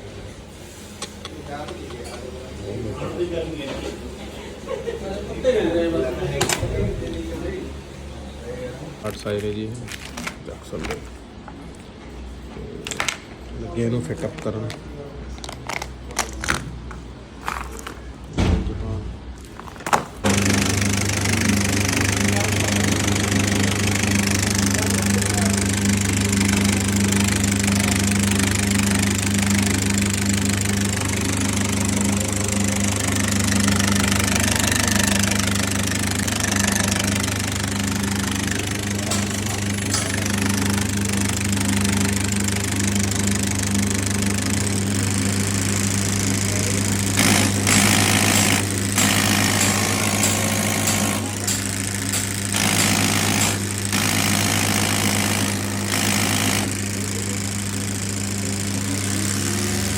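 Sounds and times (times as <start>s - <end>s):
fuel pump machine hum: 0.0s - 13.0s, 15.4s - 59.9s.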